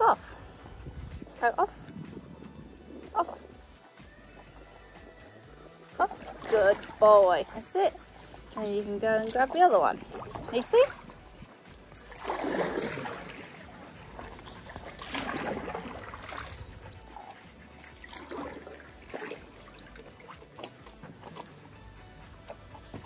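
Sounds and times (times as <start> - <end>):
paddle swishing through water: 0.0 - 23.0.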